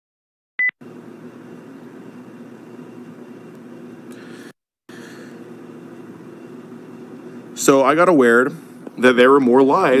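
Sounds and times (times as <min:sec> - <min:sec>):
room noise hum: 0:00.8 - 0:10.0.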